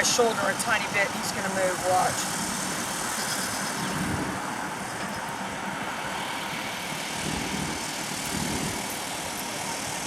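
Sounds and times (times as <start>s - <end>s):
outdoor background rumble with hiss: 0.0s - 10.0s.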